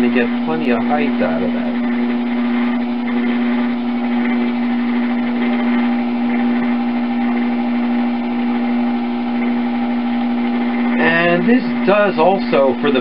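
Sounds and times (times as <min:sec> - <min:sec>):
potter's wheel motor humming: 0:00.0 - 0:13.0.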